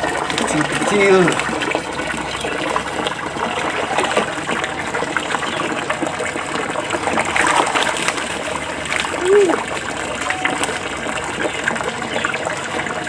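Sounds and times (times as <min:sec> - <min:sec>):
water running over concrete: 0:00.0 - 0:13.0.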